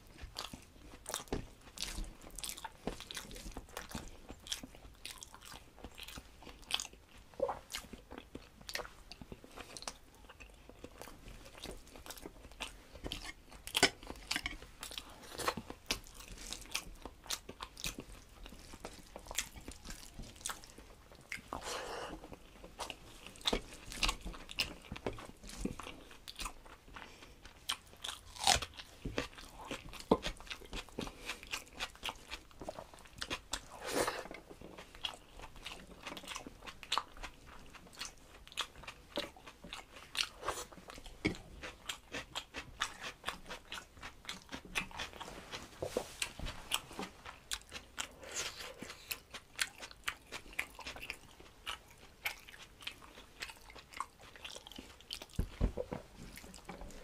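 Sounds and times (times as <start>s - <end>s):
man chewing with mouth clicks: 0.0s - 57.0s.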